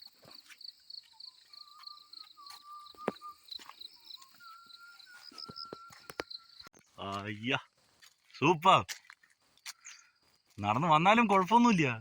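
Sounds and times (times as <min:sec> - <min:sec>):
footsteps on trail: 0:00.0 - 0:12.0.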